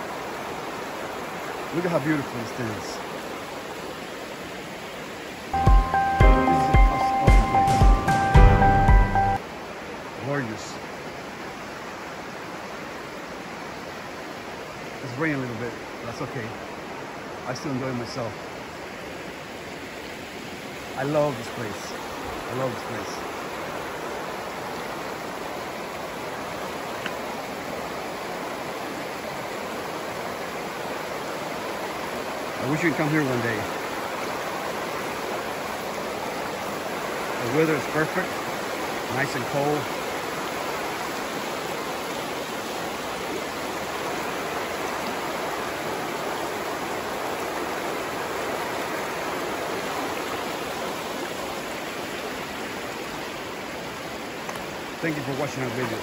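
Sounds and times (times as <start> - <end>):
river rushing over cobbles: 0.0 - 56.0.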